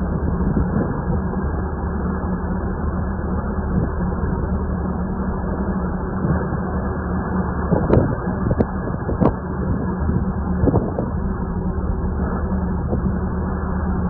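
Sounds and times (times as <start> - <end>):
wind buffeting microphone: 0.0 - 2.2, 3.2 - 14.0
boat engine droning: 0.0 - 14.0.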